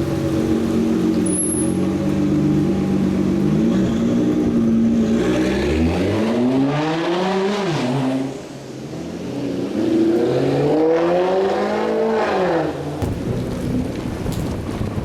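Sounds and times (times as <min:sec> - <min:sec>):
car engine accelerating hard: 0:00.0 - 0:12.8.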